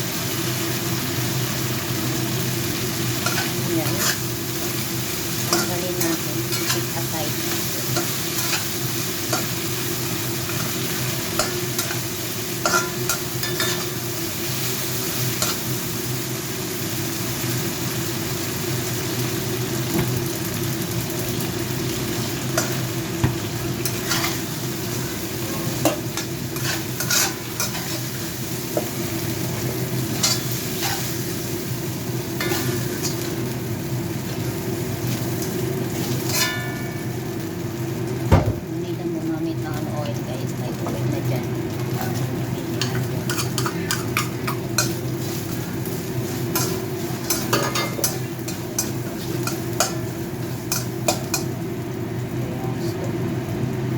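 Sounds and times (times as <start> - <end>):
chicken sizzling in hot oil: 0.0 - 53.9.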